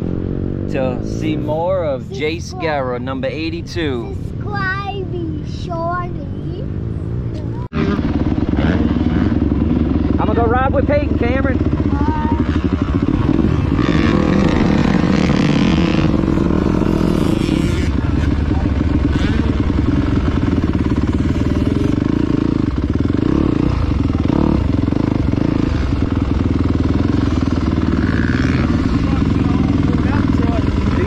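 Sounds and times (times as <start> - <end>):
dirt bike engine running: 0.0 - 4.6, 6.7 - 31.0.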